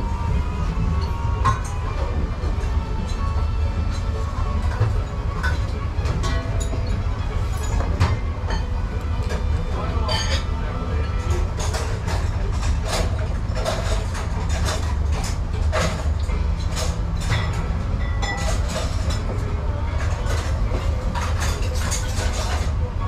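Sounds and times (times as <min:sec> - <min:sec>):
bowls and utensils clattering: 0:00.9 - 0:23.0.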